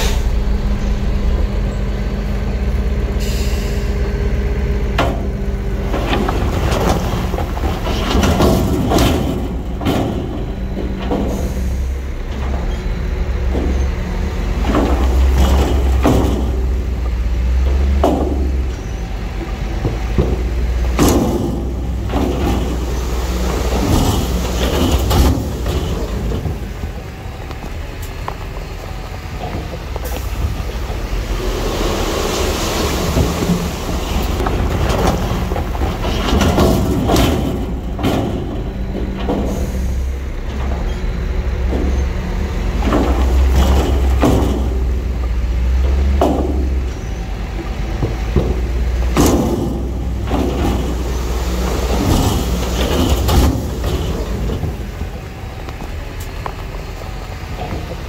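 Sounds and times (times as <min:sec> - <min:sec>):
diesel engine drone: 0:00.0 - 0:58.0
machinery clanks and knocks: 0:00.0 - 0:58.0.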